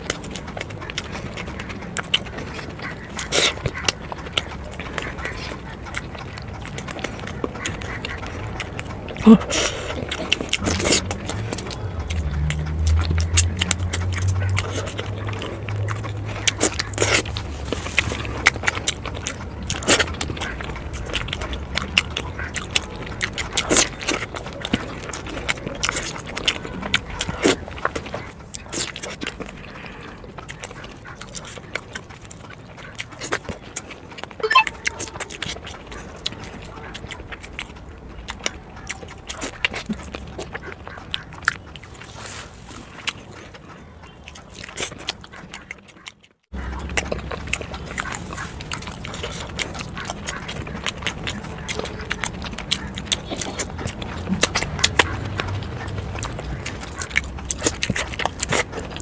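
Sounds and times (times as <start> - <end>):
wet chewing and lip smacks: 0.0 - 59.0.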